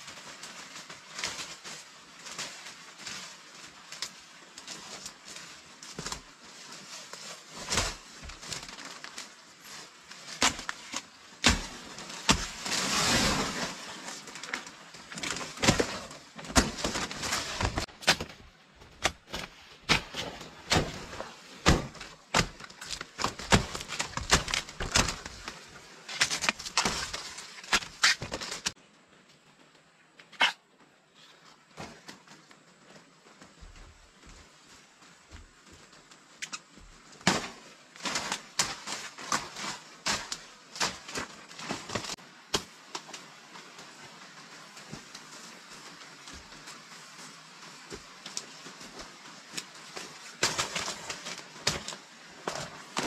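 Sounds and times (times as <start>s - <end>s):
rustling: 0.0s - 53.0s.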